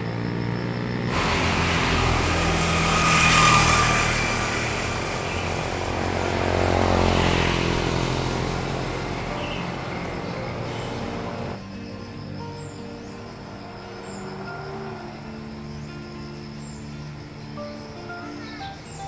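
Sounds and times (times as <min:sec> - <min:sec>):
vehicles passing by: 0:00.0 - 0:19.0.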